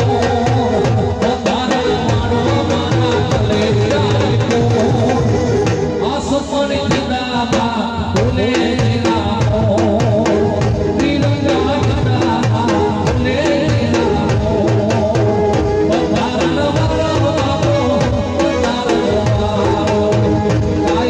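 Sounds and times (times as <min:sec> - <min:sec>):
music with steady drum beat: 0:00.0 - 0:21.0.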